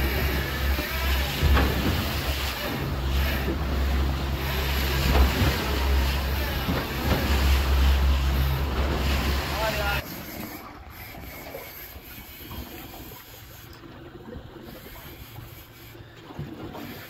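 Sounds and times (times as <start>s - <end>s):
churning boat wake: 0.0s - 17.0s
outboard motor running: 0.0s - 17.0s.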